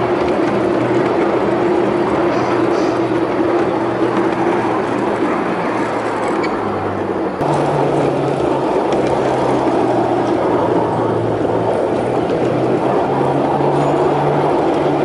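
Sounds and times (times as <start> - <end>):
railbus running on track: 0.0 - 15.0.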